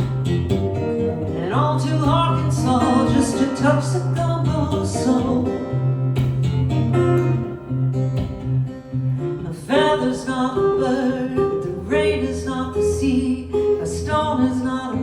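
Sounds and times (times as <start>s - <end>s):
guitar strummed chords and melody: 0.0s - 15.0s.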